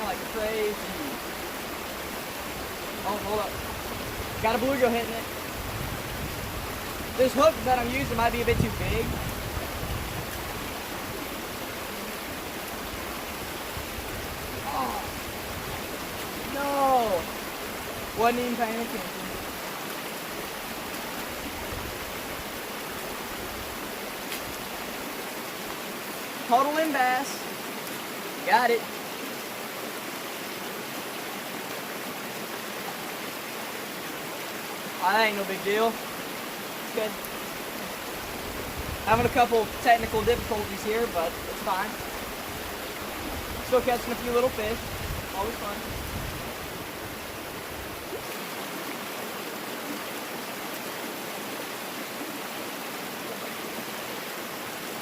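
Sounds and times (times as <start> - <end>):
creek water over small waterfalls: 0.0 - 55.0.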